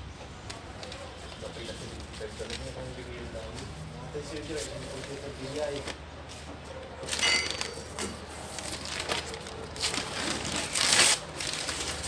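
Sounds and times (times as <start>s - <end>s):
newspaper rustling and crumpling: 0.4s - 12.0s.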